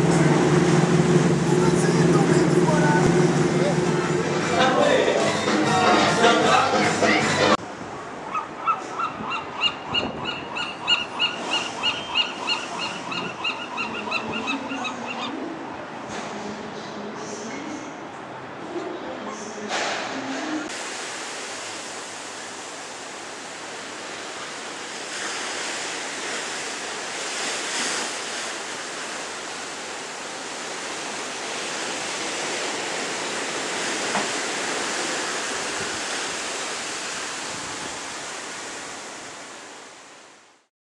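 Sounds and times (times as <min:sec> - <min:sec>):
ocean waves: 0:00.0 - 0:40.7.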